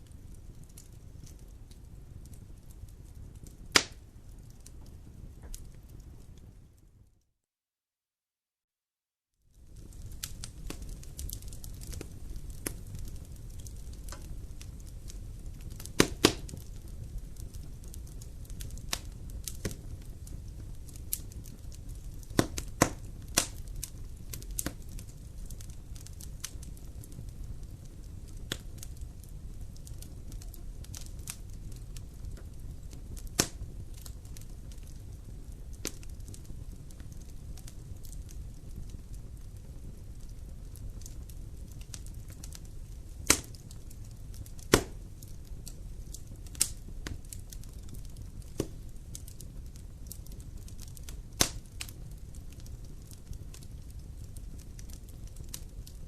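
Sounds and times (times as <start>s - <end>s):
fire rumbling: 0.0s - 7.1s, 9.5s - 56.0s
fire crackling and popping: 0.0s - 7.2s, 9.5s - 56.0s.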